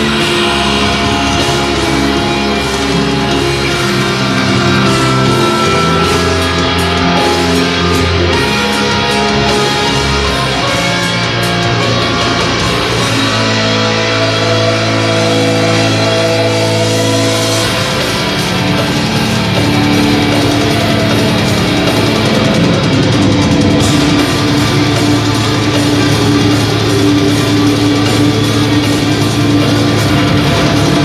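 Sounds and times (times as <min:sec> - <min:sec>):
heavy metal music: 0:00.0 - 0:31.0.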